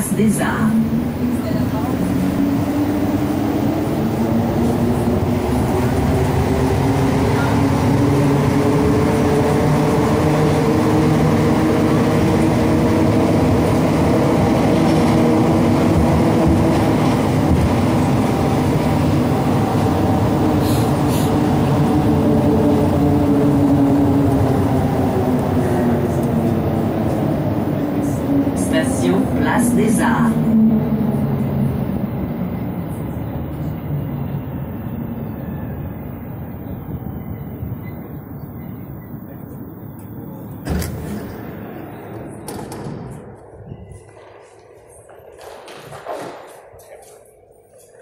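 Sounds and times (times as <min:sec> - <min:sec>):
metro train rumble: 0:00.0 - 0:48.0.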